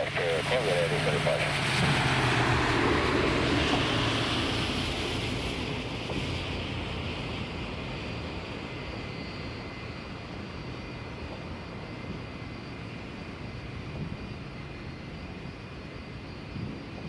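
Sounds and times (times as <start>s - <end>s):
jet engine rush: 0.0s - 17.0s.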